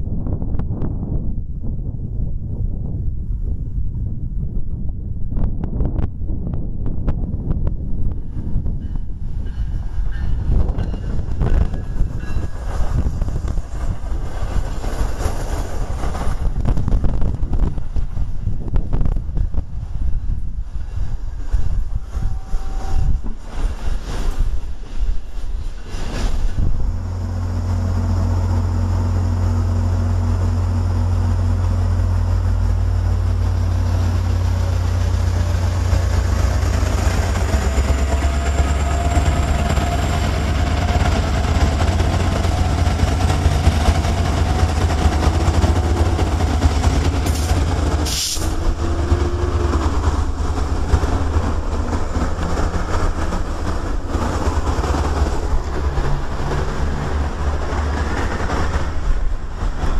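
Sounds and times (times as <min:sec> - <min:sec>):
diesel locomotive rumble: 0:00.0 - 0:59.9
moving train noise: 0:00.0 - 0:59.9.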